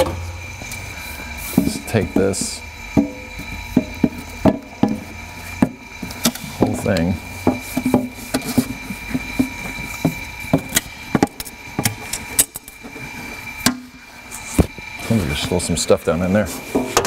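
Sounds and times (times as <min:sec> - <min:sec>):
steady high hum: 0:00.0 - 0:17.0.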